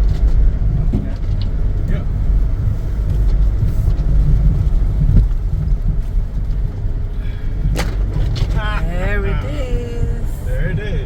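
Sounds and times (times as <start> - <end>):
vehicle rumbling on dirt track: 0.0 - 11.0.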